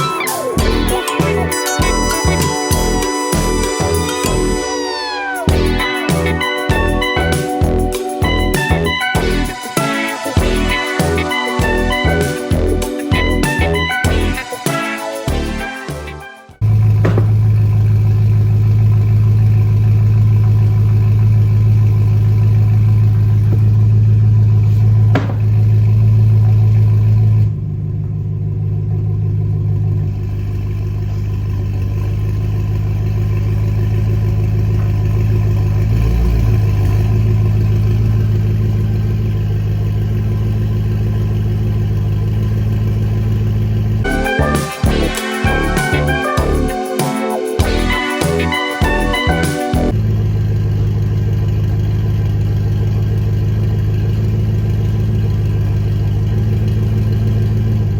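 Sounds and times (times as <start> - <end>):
car engine idling: 0.0 - 9.6, 16.6 - 46.6, 47.8 - 57.9.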